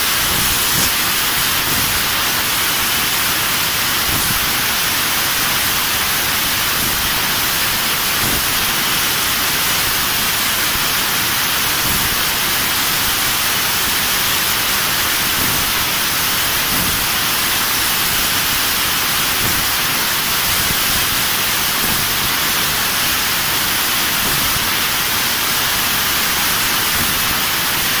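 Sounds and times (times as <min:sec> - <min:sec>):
laser cutting machine hiss: 0:00.0 - 0:28.0.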